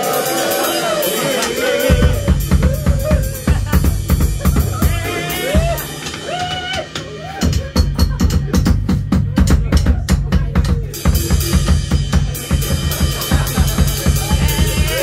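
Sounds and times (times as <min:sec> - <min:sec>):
cymbals: 0:00.0 - 0:15.0
heavy bass and drums: 0:00.0 - 0:15.0
rock band playing: 0:00.0 - 0:15.0.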